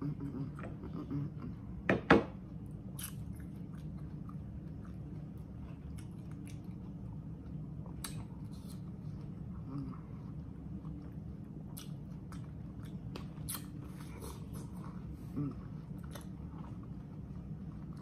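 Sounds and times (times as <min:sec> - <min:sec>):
person chewing watermelon: 0:02.5 - 0:18.0.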